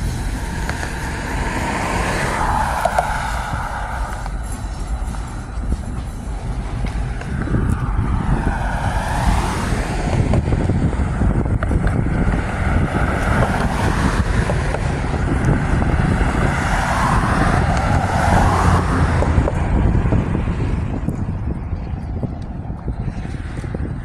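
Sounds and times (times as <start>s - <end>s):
road and wind noise from vehicle: 0.0s - 24.0s.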